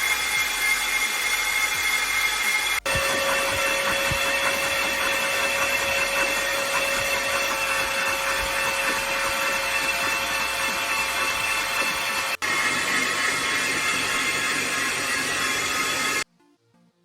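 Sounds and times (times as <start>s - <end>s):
power tool whining: 0.0s - 16.2s.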